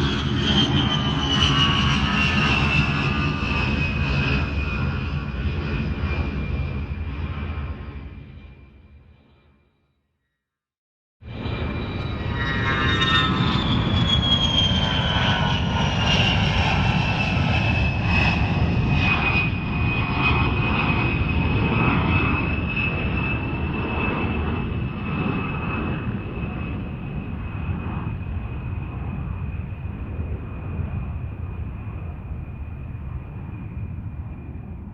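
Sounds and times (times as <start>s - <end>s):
jet engine rumble and whine: 0.0s - 9.7s, 11.2s - 34.9s.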